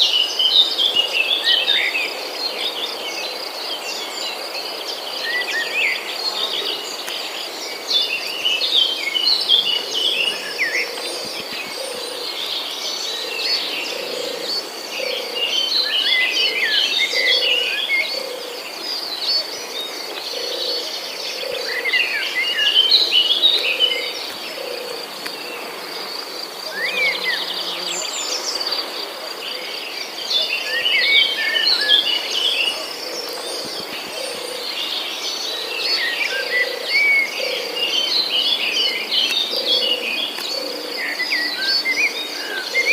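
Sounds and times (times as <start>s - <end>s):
insects trilling: 4.7s - 42.9s.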